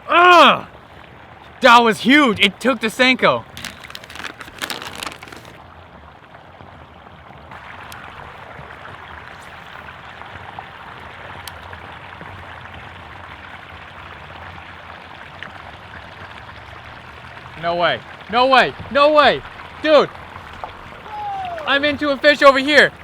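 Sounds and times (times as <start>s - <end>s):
water pouring over small waterfall: 2.9s - 23.0s.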